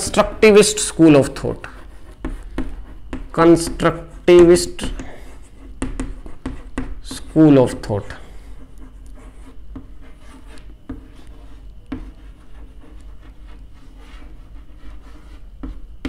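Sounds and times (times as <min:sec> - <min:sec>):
chalk scratching on a chalkboard: 0:00.0 - 0:16.0
chalk tapping on a board: 0:01.3 - 0:16.0.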